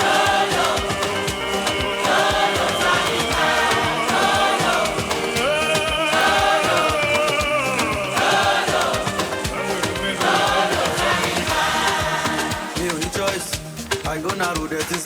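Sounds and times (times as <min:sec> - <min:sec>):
gospel choir singing: 0:00.0 - 0:13.8
band playing: 0:00.0 - 0:14.3
steady drumbeat: 0:00.0 - 0:15.0.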